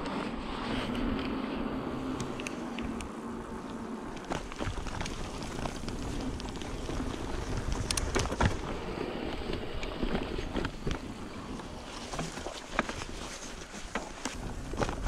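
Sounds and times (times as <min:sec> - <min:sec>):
bike tyre rolling on dirt: 0:00.0 - 0:15.0
wind on microphone: 0:00.0 - 0:15.0
bike rattling clicks and knocks: 0:02.1 - 0:15.0.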